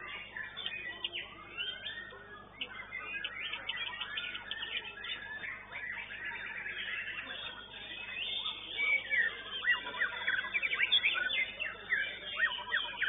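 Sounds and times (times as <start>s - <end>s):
bird singing chirps and whistles: 0.0s - 13.0s.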